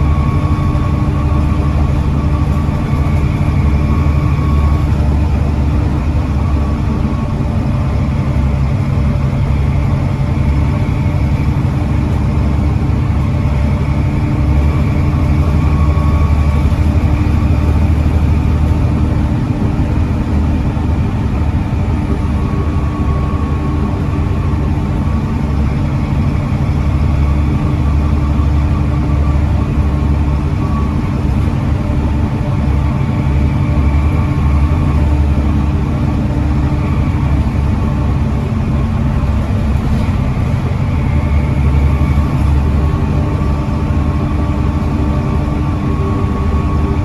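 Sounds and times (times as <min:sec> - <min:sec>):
bus diesel engine running: 0:00.0 - 0:47.0.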